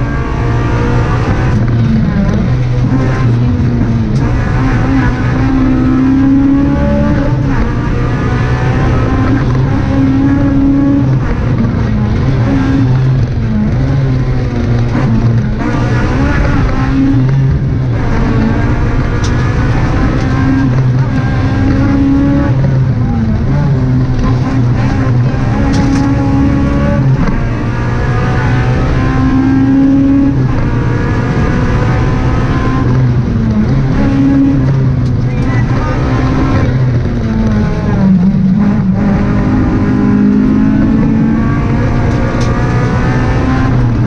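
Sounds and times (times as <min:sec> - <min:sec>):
car engine revving through gears: 0:00.0 - 0:44.0
road and tyre noise: 0:00.0 - 0:44.0.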